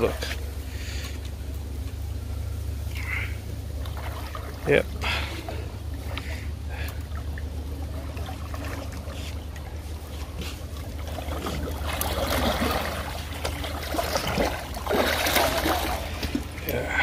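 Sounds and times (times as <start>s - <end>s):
steady low rumble: 0.0s - 17.0s
fish splashing in water: 0.4s - 17.0s.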